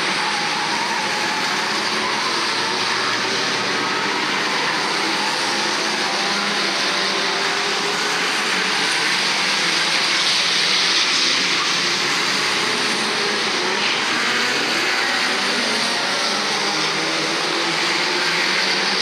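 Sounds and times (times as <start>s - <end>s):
racing car engines revving: 0.0s - 19.0s.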